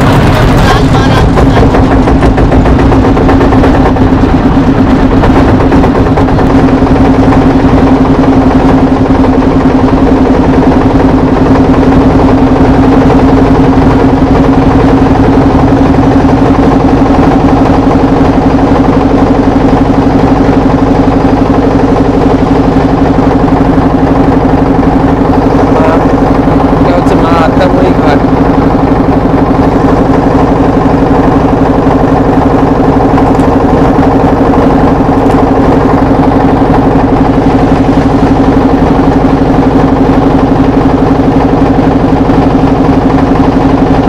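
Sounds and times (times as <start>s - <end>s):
motorboat engine droning: 0.0s - 44.0s.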